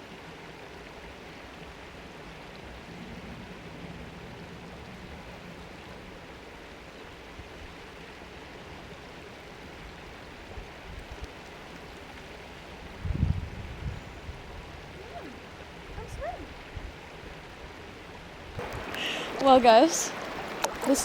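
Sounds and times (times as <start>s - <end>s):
stream water flowing: 0.0s - 21.0s.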